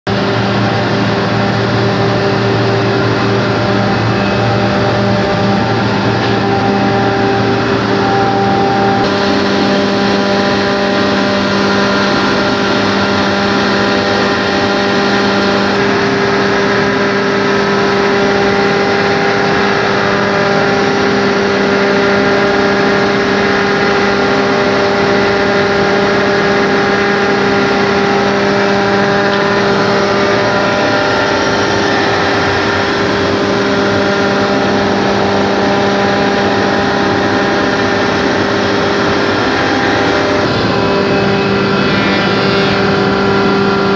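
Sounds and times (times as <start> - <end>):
air compressor droning: 0.1 - 43.9.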